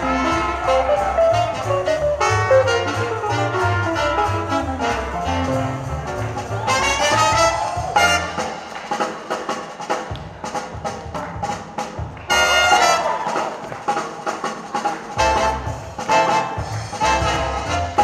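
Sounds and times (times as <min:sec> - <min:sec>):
swing jazz brass band: 0:00.0 - 0:18.0.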